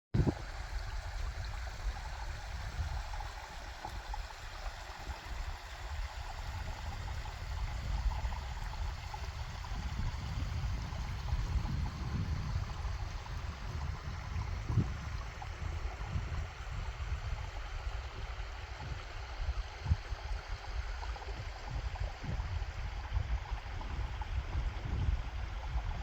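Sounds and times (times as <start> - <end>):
water running and gurgling: 0.2 - 26.0.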